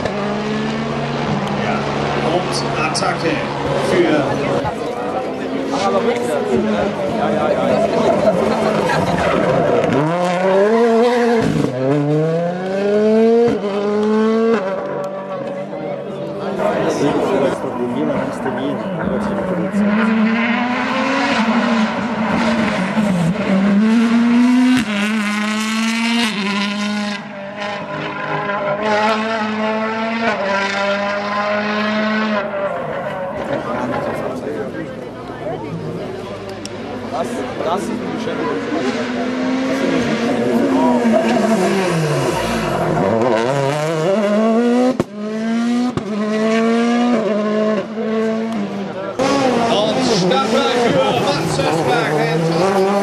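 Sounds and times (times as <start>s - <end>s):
car engines revving hard: 0.0s - 53.0s.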